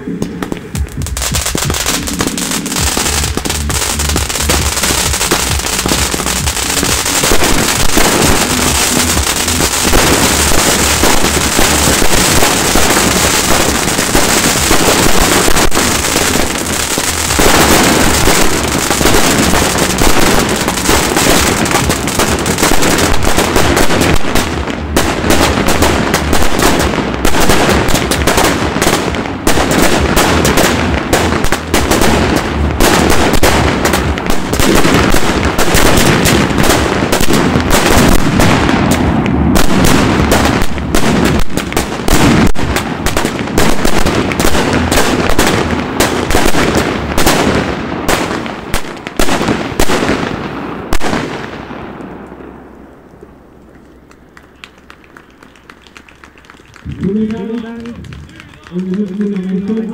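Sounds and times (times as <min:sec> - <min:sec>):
fireworks launching and bursting: 0:00.0 - 0:59.9.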